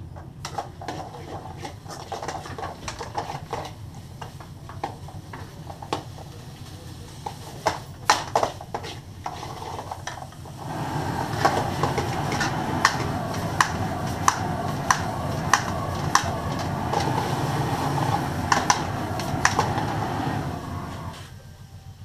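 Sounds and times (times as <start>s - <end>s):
rice sizzling in a pan: 0.5s - 21.7s.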